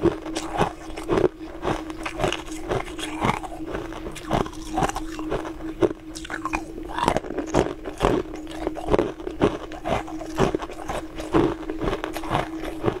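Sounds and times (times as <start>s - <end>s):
ice crunched in mouth: 0.0s - 13.0s.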